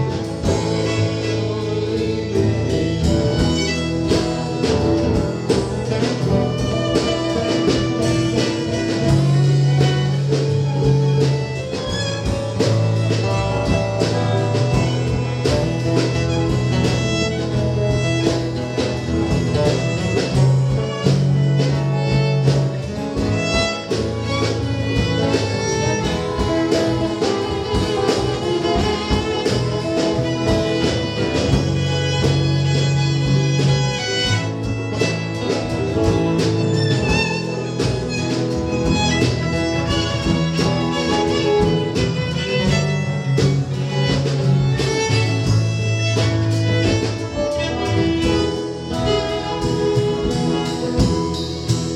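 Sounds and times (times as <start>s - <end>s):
fiddle: 0.0s - 51.9s
guitar strumming: 0.0s - 51.9s
sustained bass notes: 0.0s - 51.9s.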